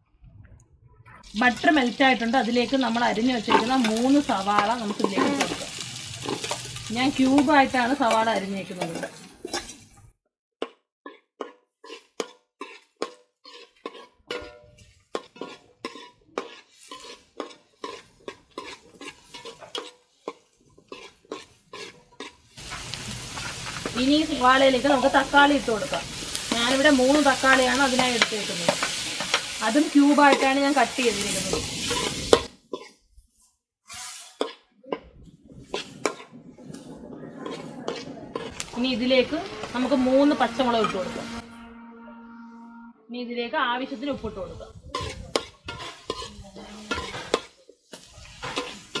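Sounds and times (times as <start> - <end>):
faint frying hiss: 1.2 - 10.1, 11.8 - 41.4, 43.9 - 49.0
metal spatula scraping a pot: 1.4 - 10.0, 11.0 - 42.5, 43.9 - 49.0.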